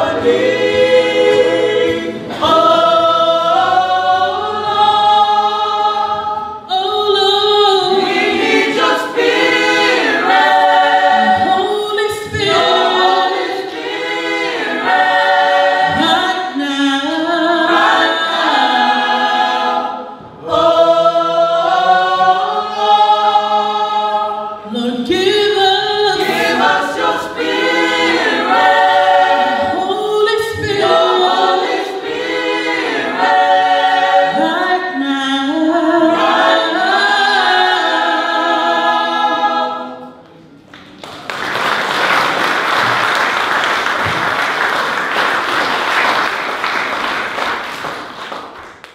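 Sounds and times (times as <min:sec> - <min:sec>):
choir singing in harmony: 0:00.0 - 0:40.4.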